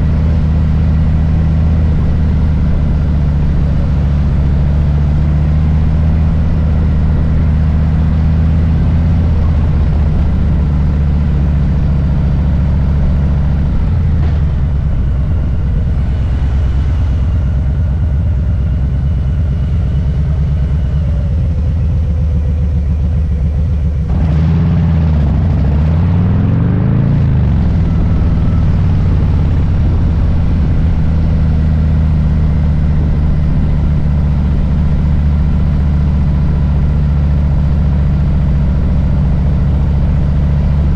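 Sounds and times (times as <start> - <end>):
motorcycle engine rumbling: 0.0 - 40.9.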